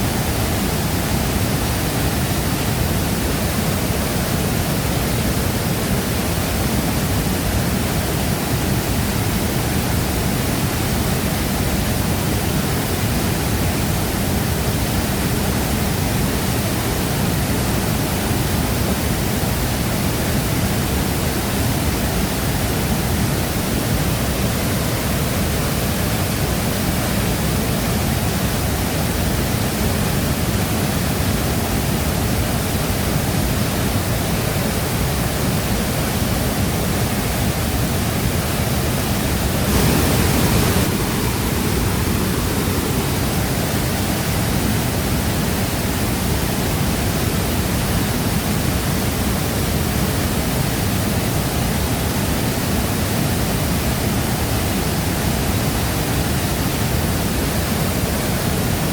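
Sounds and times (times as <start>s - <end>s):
waterfall crashing: 0.0s - 58.9s.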